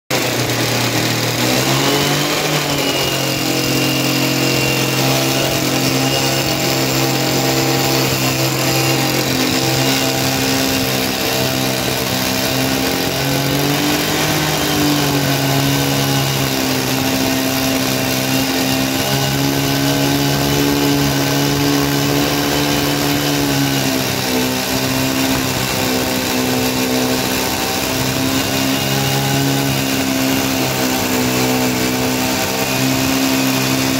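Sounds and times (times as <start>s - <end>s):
chainsaw cutting log: 0.1s - 33.9s.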